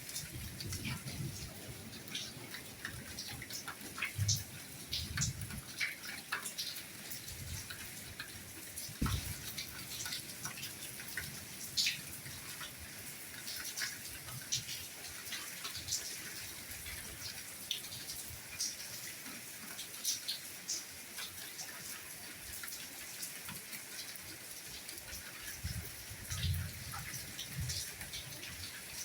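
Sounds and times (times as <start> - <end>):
raindrops pattering and dripping: 0.0 - 29.0
soft rain hiss: 0.0 - 29.0.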